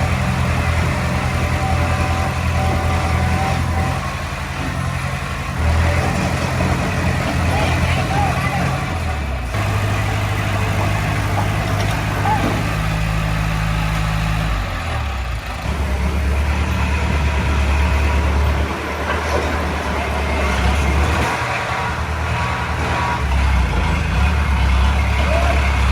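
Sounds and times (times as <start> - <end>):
heavy diesel engine running: 0.0 - 25.9.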